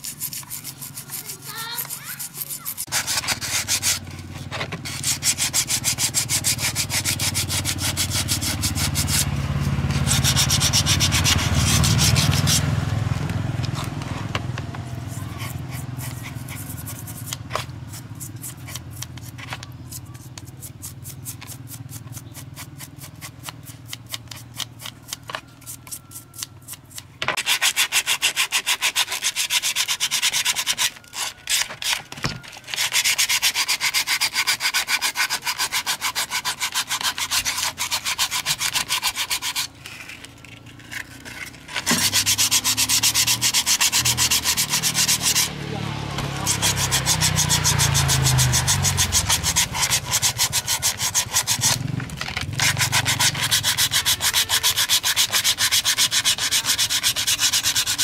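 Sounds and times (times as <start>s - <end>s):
abrasive scrubbing: 0.0s - 12.8s, 14.9s - 23.5s, 27.4s - 58.0s.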